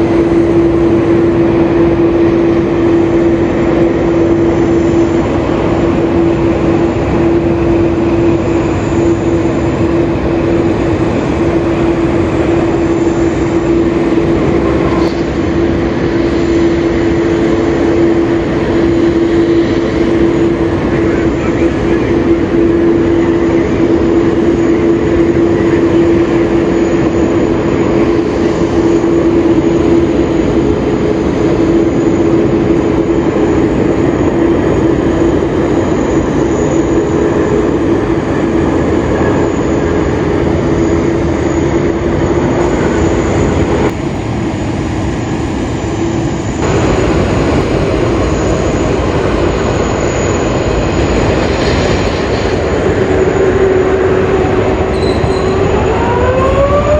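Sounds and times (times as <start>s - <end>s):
airliner jet engines landing: 0.0s - 56.9s.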